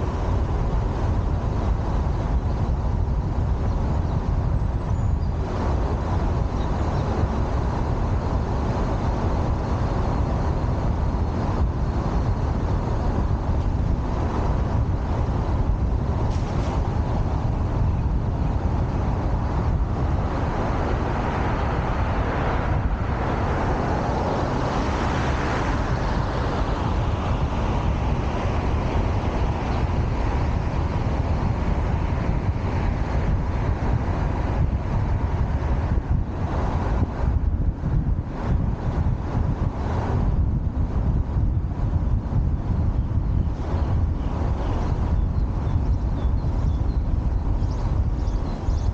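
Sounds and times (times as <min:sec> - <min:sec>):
city street traffic rumble: 0:00.0 - 0:48.9.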